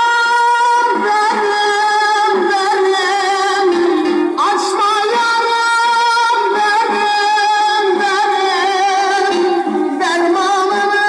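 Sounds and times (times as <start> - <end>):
person singing: 0.0 - 11.0
plucked strings: 0.0 - 11.0.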